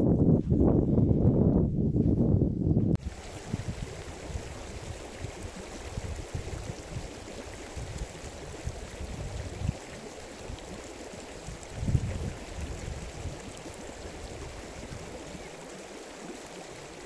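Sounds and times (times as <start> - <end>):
stream rushing: 3.0 - 17.0.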